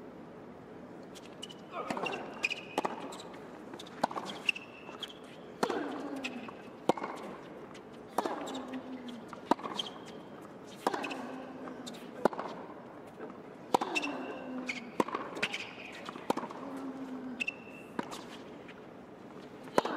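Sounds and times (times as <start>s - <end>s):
racket hitting tennis ball: 1.2s - 18.8s, 19.4s - 19.9s.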